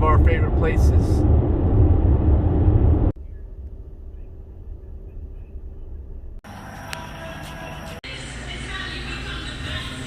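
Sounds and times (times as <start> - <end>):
car road noise rumble: 0.0 - 8.1
faint hum: 0.0 - 10.0.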